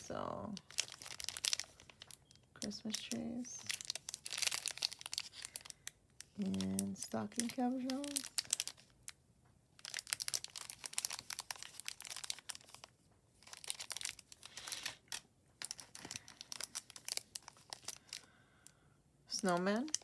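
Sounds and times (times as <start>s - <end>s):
plastic bags crinkling: 0.0s - 9.2s, 9.8s - 18.7s, 19.3s - 20.0s.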